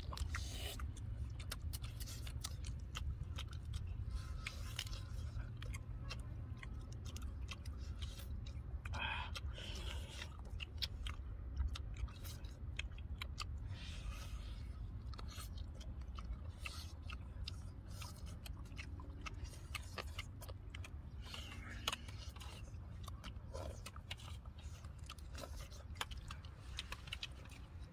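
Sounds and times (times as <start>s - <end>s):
chewing and lip smacks: 0.0s - 27.9s
steady low rumble: 0.0s - 27.9s.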